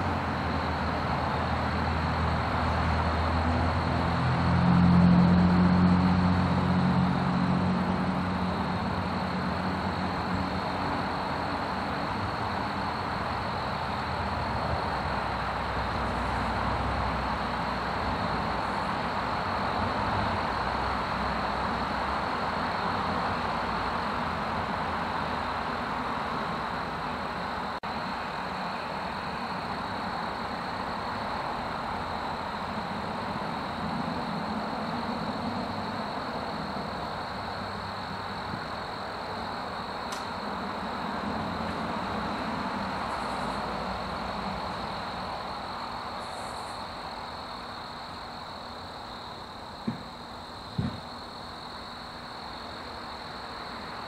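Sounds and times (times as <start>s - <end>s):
distant road traffic: 0.0s - 54.0s
vehicle engine hum: 0.0s - 54.0s.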